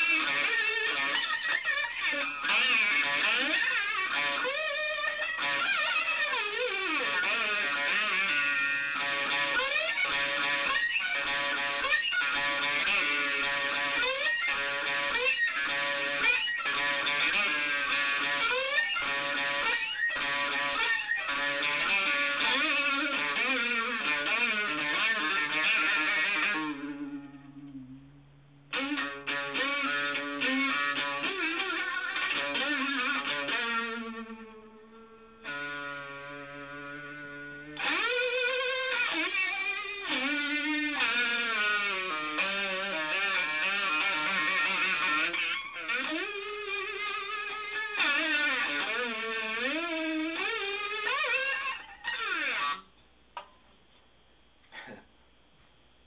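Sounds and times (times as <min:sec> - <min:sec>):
distorted slide blues riff: 0:00.0 - 0:52.9.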